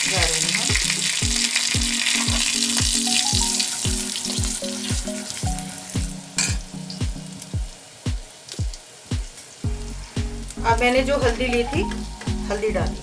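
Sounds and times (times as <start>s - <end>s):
background music with steady beat: 0.0s - 13.0s
spices sizzling in hot oil: 0.0s - 13.0s.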